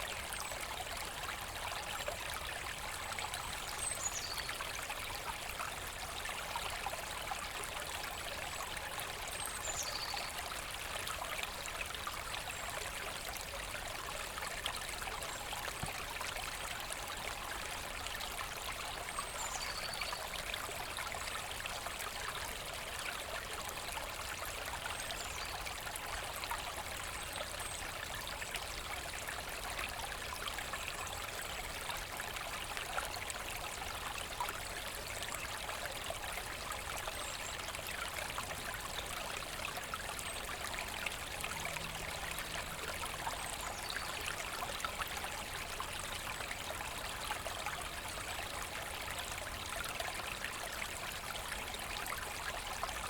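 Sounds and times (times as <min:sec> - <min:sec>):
brook babbling over stones: 0:00.0 - 0:53.0.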